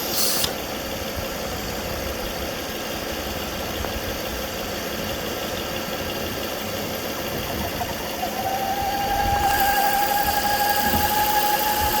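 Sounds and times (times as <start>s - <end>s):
steady high whine: 0.0s - 12.0s
car engine idling: 1.2s - 12.0s.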